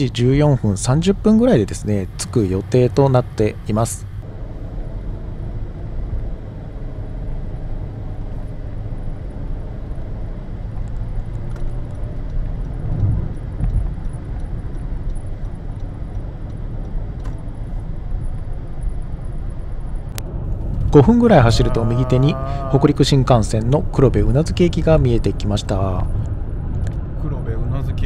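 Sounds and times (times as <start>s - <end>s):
road and tyre rumble: 0.0s - 28.0s.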